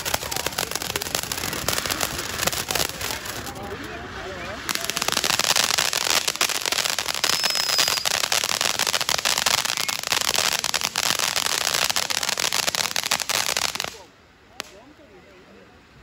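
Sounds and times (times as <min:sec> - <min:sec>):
fireworks hissing and crackling: 0:00.0 - 0:15.4.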